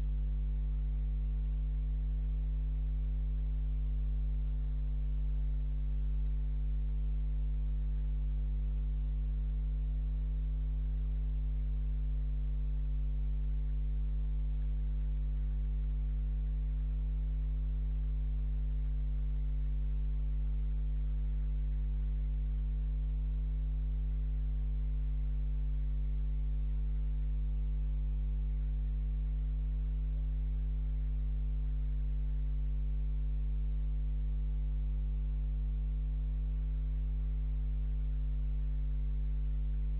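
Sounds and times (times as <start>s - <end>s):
low electrical mains hum: 0.0s - 39.9s.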